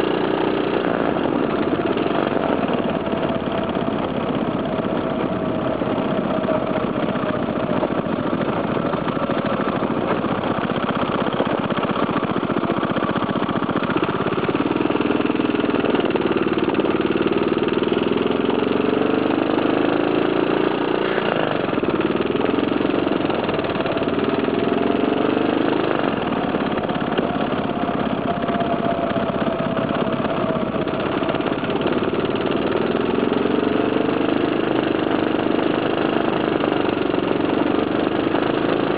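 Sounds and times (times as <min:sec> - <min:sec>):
small motorcycle engine running: 0:00.0 - 0:38.9.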